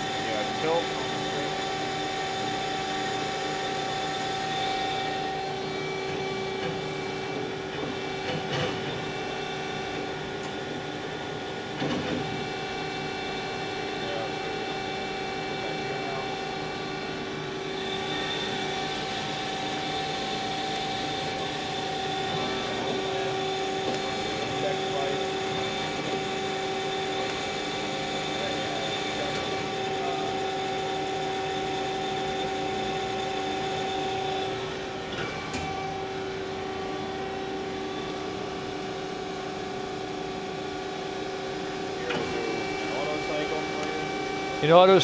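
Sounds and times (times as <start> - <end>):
band saw humming: 0.0 - 10.2, 12.2 - 40.8.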